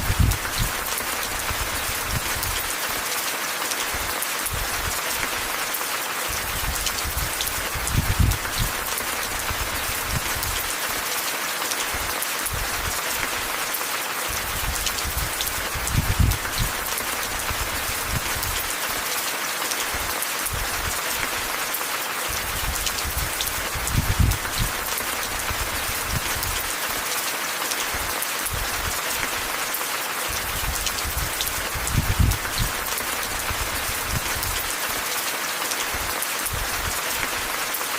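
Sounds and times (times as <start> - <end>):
rain hissing: 0.0 - 37.9.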